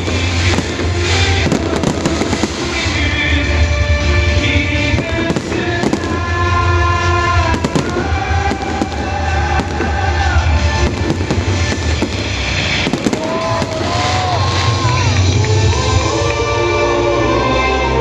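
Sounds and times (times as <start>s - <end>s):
fireworks bangs and crackles: 0.0s - 16.1s
loud music with heavy bass: 0.0s - 18.0s.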